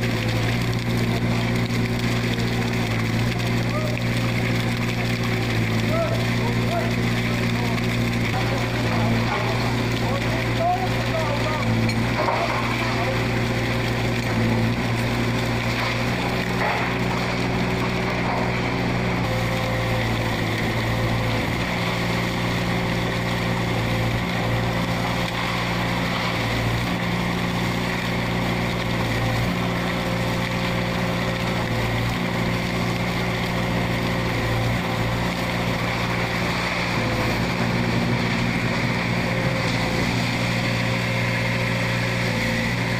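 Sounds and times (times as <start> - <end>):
concrete pump engine running: 0.0 - 42.9.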